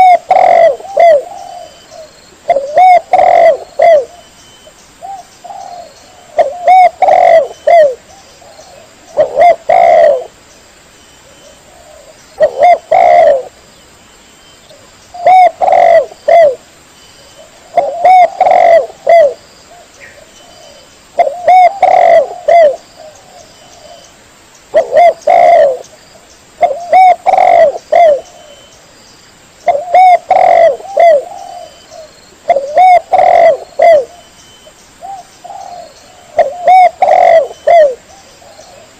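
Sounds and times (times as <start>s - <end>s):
dove cooing: 0.0s - 4.3s, 5.0s - 10.4s, 11.2s - 13.6s, 14.7s - 16.6s, 17.3s - 24.1s, 24.7s - 25.9s, 26.6s - 28.7s, 29.6s - 34.3s, 35.0s - 38.9s.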